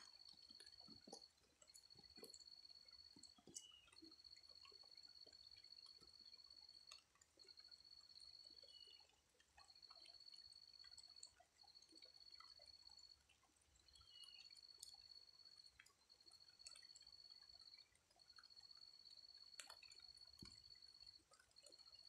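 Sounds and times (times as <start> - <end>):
rain dripping: 0.0 - 22.0.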